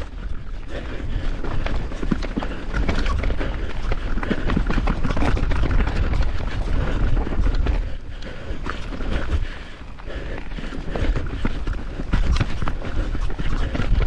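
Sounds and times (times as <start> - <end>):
mountain bike rattling over trail: 0.0 - 14.0.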